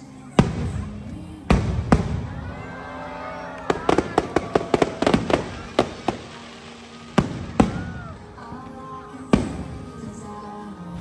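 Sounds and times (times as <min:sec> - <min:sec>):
music: 0:00.0 - 0:11.0
fireworks bangs: 0:00.4 - 0:10.4.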